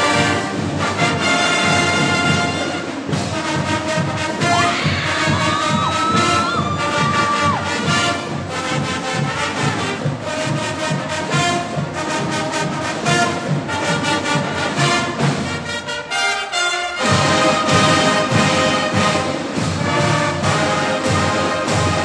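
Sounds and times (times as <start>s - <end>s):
percussion beat: 0.0s - 16.3s, 17.0s - 22.0s
brass marching band: 0.0s - 22.0s.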